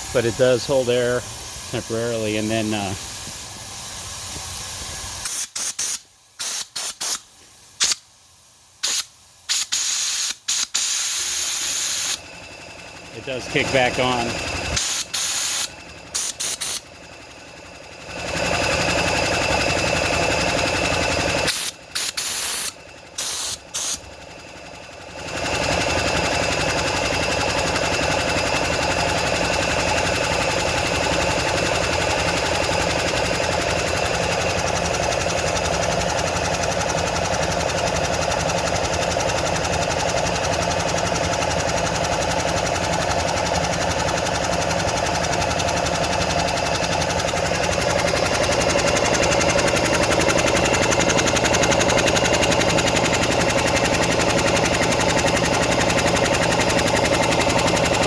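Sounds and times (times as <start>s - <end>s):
air compressor running: 0.0s - 58.0s.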